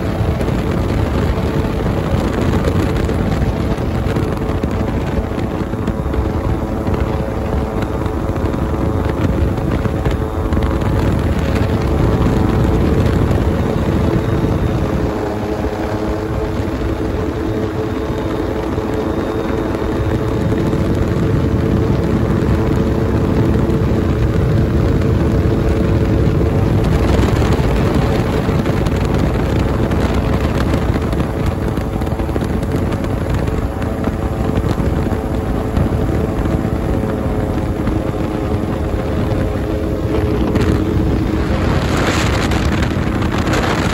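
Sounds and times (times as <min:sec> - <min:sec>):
engine and propeller running: 0:00.0 - 0:43.9
wind rushing over microphone: 0:00.0 - 0:43.9.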